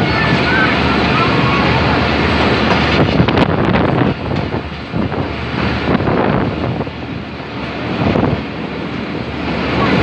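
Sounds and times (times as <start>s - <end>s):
wheel on rail noise: 0.0s - 10.0s
wind buffeting microphone: 0.0s - 10.0s.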